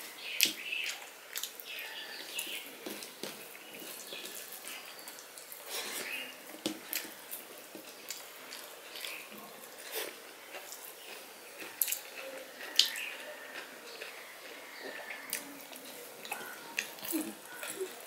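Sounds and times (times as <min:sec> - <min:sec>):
mouth chewing: 0:00.3 - 0:18.0.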